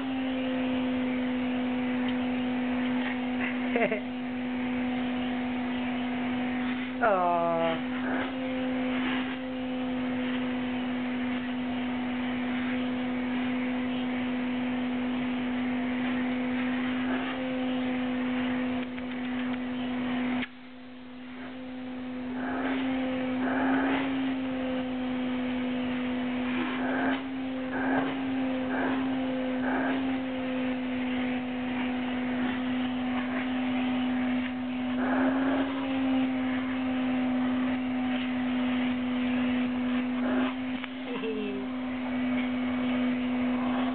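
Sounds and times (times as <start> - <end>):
vacuum cleaner humming: 0.0 - 43.9.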